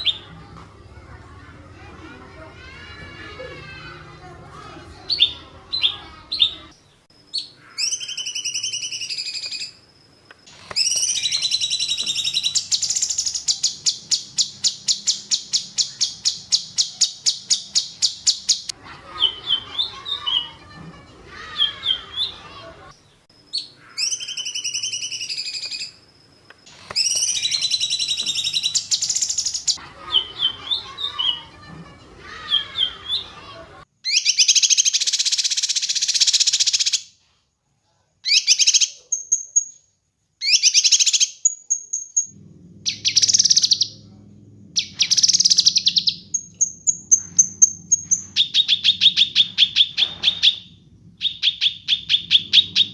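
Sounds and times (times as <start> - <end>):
recorded songbird song with trills: 0.0 - 0.6, 4.6 - 9.8, 10.5 - 26.0, 26.8 - 37.1, 38.2 - 44.0, 44.8 - 52.9.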